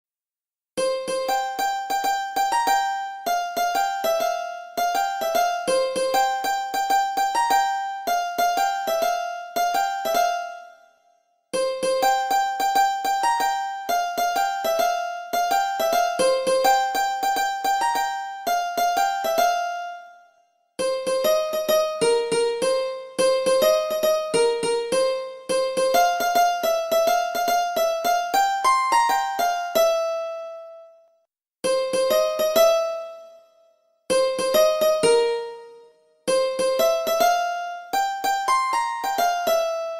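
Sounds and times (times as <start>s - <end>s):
plucked sitar melody: 0.8s - 39.9s.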